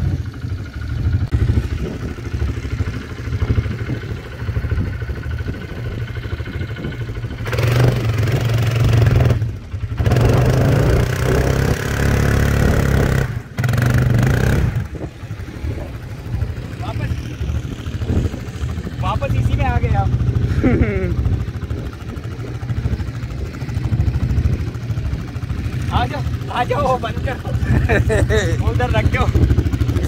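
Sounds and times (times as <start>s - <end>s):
quad bike engine revving: 0.0s - 30.0s.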